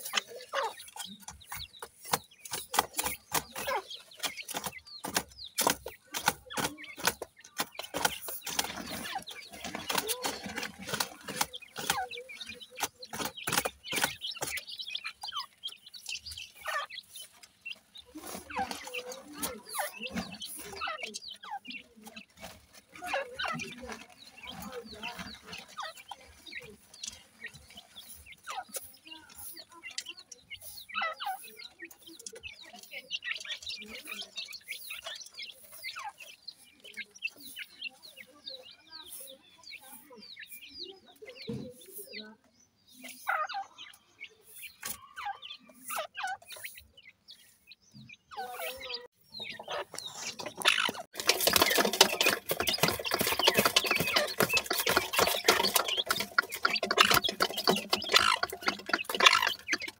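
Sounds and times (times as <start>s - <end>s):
chicks pecking in grit: 0.0s - 59.9s
chicks peeping: 0.0s - 59.9s.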